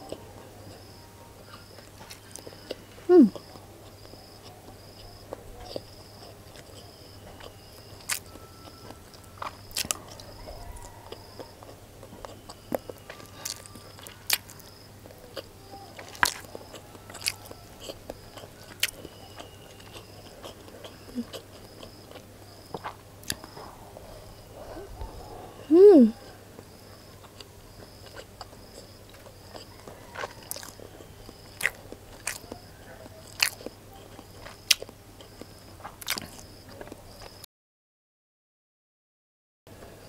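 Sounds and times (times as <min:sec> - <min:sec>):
chewing clicks and smacks: 0:01.5 - 0:23.6, 0:27.2 - 0:37.4.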